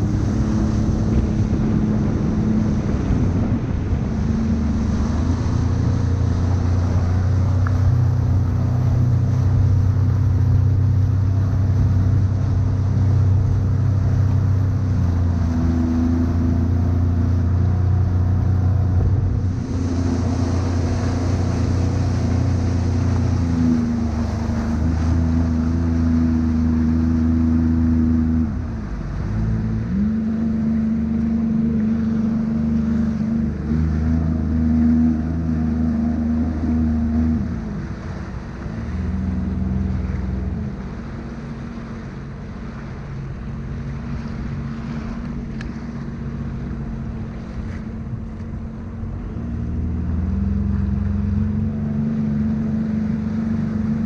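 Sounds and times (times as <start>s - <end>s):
watercraft engine running: 0.0s - 54.0s.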